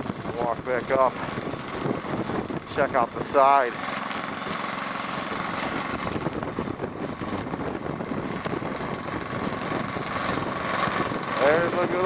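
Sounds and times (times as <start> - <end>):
microphone handling noise: 0.0 - 12.0
steady wind: 0.0 - 12.0.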